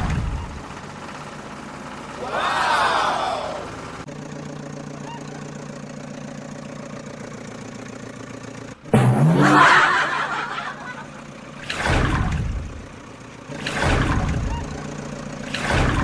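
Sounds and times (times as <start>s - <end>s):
vehicle engine idling: 0.0s - 16.0s
engine revving with rushing noise: 2.0s - 16.0s.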